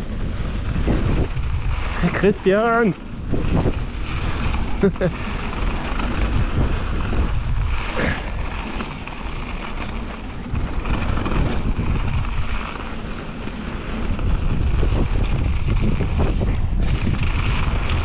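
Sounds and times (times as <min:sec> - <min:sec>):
bike clicks and rattles: 0:00.0 - 0:18.0
bike tyre rumble: 0:00.0 - 0:18.0
wind buffeting microphone: 0:00.0 - 0:18.0.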